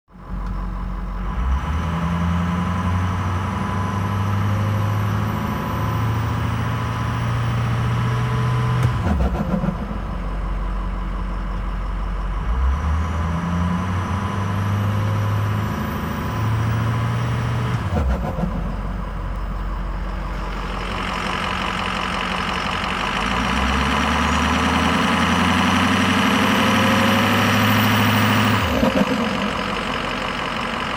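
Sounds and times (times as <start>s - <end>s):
diesel engine revving: 0.1s - 30.9s.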